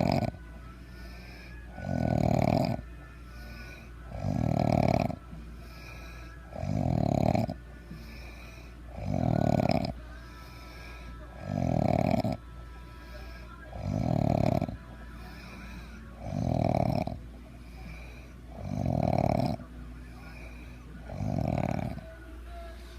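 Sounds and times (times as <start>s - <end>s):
heavy snoring: 0.0s - 22.9s.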